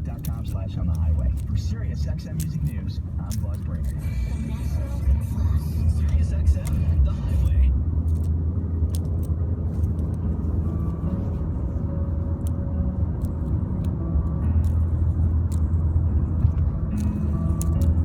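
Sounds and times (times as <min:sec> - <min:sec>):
car road rumble: 0:00.0 - 0:18.0.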